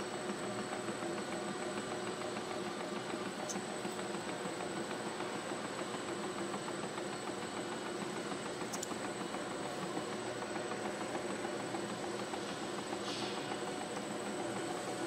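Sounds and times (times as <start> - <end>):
high steady machine whine: 0.0 - 15.0
machine humming with rapid chatter: 0.0 - 15.0.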